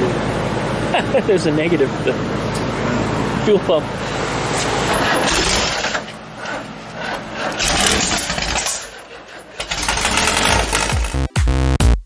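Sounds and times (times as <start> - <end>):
air-cooled engine starting and surging: 0.0 - 11.6.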